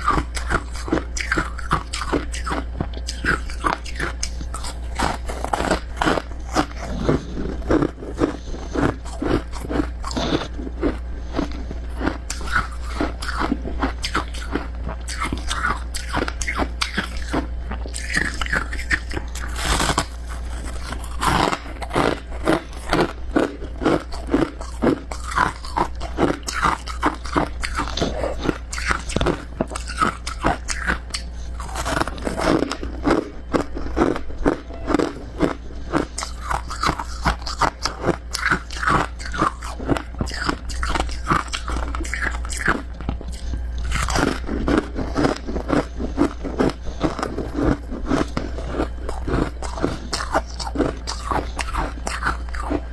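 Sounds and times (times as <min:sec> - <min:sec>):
crunchy chewing of frost: 0:00.0 - 0:52.9.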